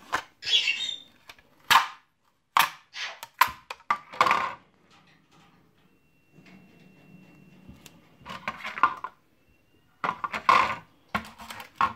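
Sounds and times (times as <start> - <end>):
plastic parts clicking and knocking: 0.0 - 0.4, 1.1 - 9.2, 10.0 - 11.9.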